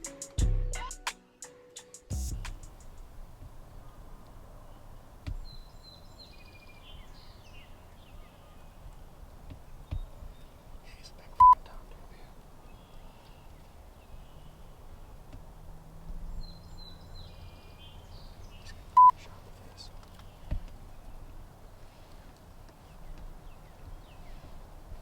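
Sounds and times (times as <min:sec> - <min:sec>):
faint bird chirps: 0:00.0 - 0:09.0, 0:09.7 - 0:15.2, 0:16.2 - 0:22.0
low rumble of wind: 0:02.2 - 0:25.0.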